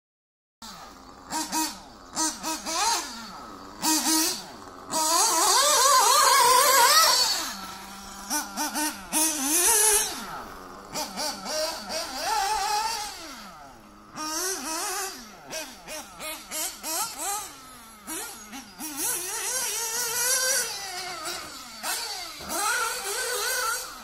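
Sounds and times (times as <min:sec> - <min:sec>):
rc car motors whining: 0:00.6 - 0:24.0.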